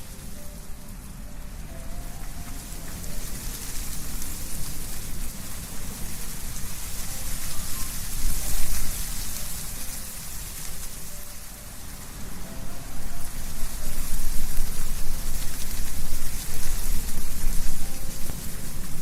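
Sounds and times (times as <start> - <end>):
leaves rustling: 0.0 - 19.0
wind blowing through trees: 0.0 - 19.0.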